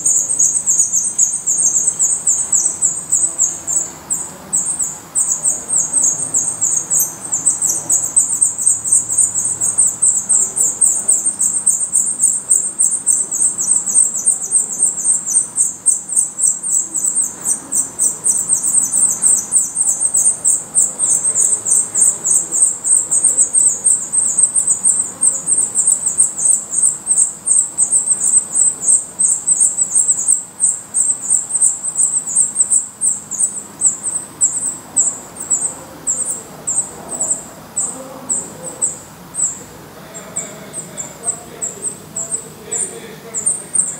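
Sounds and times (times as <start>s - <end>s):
nestlings begging calls: 0.0s - 43.9s.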